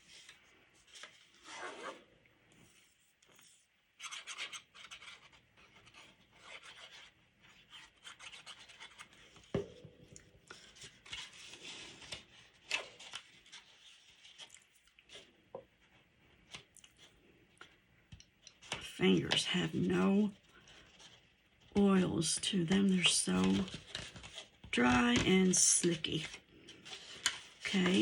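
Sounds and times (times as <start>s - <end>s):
stiff paper rustling and scraping: 0.0s - 17.2s, 18.4s - 28.0s.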